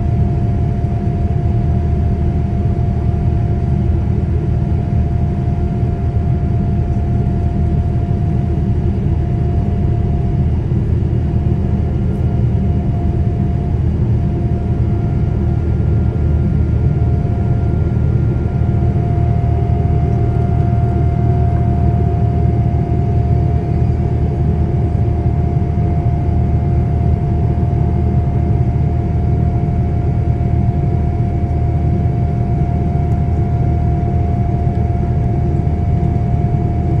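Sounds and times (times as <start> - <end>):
low roar of engines and airflow: 0.0 - 37.0.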